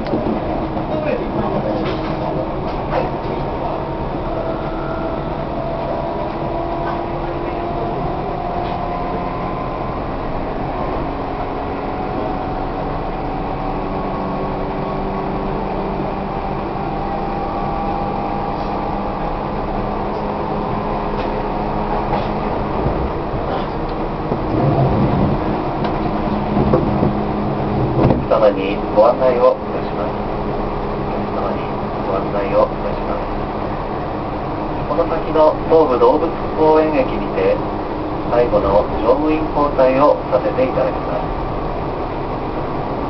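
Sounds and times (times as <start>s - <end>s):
train motor and gear whine: 0.0s - 43.0s
train wheels rumbling on rail: 0.0s - 43.0s.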